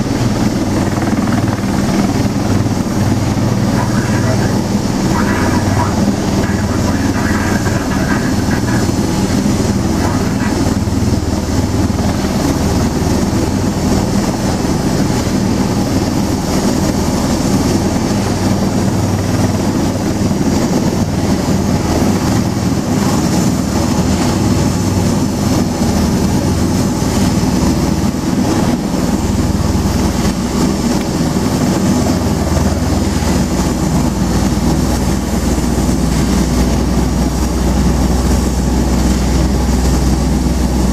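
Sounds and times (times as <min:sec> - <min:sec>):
aircraft engines and rotors: 0:00.0 - 0:40.9.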